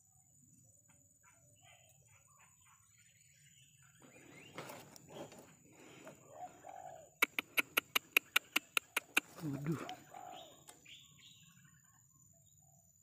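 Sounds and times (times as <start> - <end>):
birds calling: 0.9 - 13.0.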